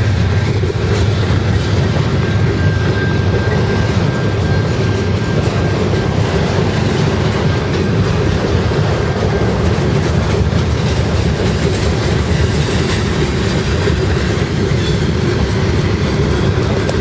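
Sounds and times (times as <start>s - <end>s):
freight cars rumbling on rails: 0.0s - 17.0s
wheels clickety-clack over track: 0.0s - 17.0s.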